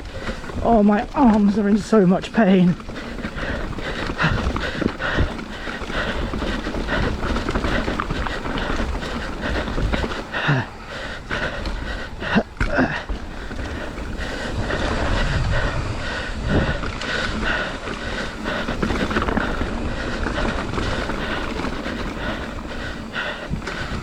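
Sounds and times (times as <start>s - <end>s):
bike chain and frame rattling: 0.0s - 24.0s
bike tyre noise: 0.0s - 24.0s
wind buffeting microphone: 0.0s - 24.0s.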